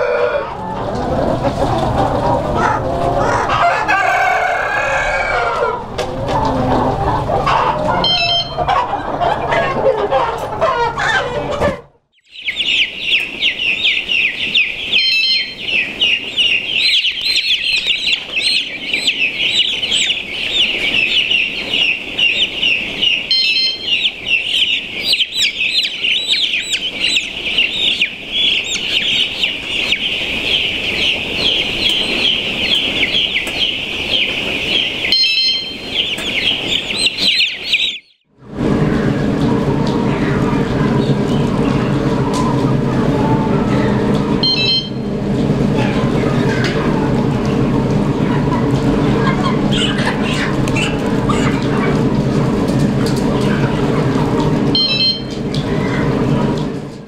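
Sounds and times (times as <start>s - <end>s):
chicks peeping: 0.0s - 57.0s
hens clucking: 0.0s - 57.0s.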